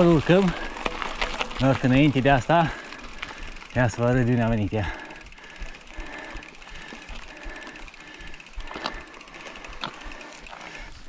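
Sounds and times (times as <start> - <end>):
bicycle freewheel ticking: 0.0 - 11.0.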